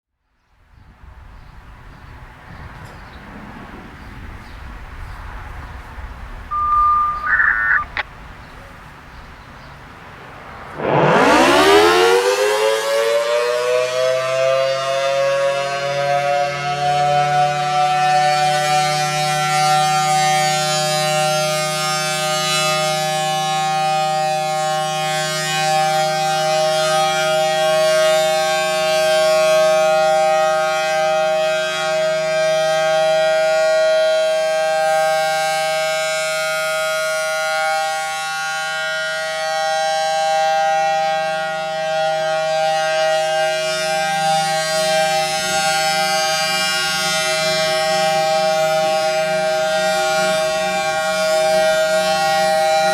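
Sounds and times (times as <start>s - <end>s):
two-tone tornado siren: 6.5s - 8.0s, 10.5s - 52.9s.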